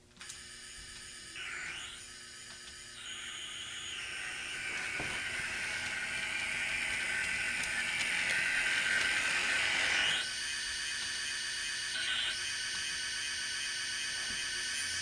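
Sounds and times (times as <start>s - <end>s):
model train motor whirring: 0.2s - 15.0s.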